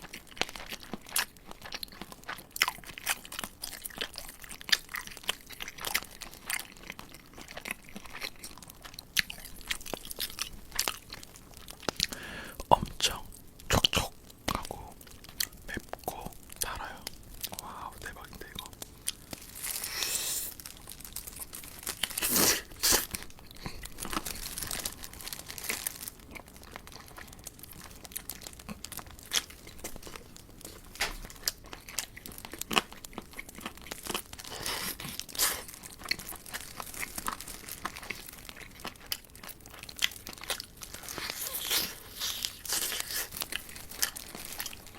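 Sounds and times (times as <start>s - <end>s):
crispy chicken crunching: 0.0s - 44.9s.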